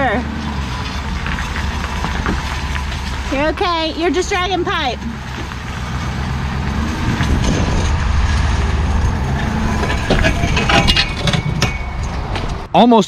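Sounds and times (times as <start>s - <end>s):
pickup truck engine: 0.0s - 12.7s
pipe scraping on ground: 0.4s - 12.7s.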